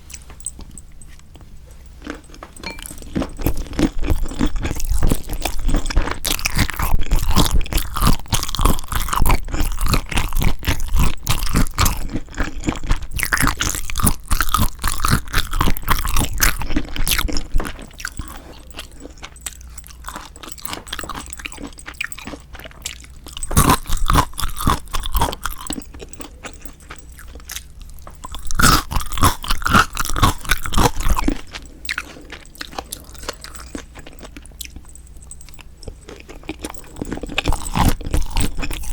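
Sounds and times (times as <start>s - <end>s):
wet crunching and chewing: 0.0s - 38.9s.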